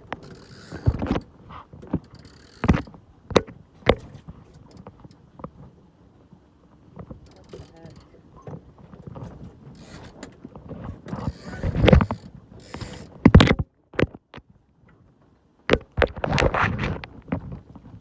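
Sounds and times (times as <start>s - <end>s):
sailboat gear clunking and rattling: 0.0s - 5.8s, 6.8s - 18.0s.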